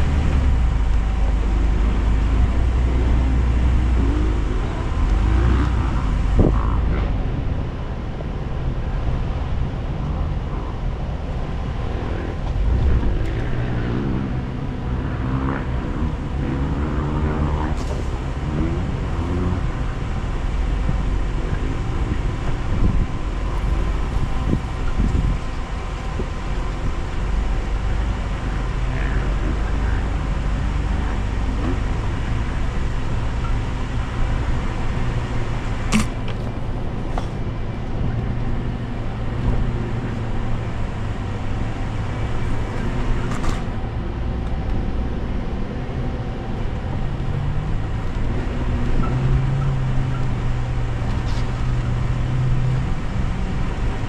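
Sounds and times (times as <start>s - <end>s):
car engine running at low speed: 0.0s - 54.0s.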